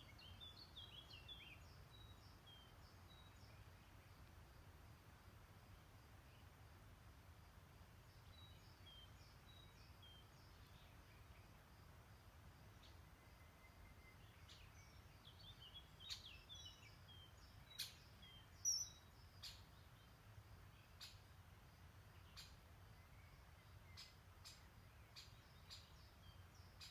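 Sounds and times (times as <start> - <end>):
low background hiss: 0.0 - 26.9
songbirds chirping: 0.0 - 26.9.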